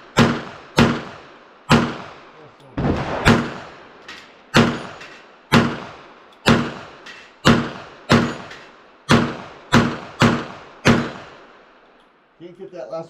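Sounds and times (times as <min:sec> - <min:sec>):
pistol shots: 0:00.1 - 0:11.6.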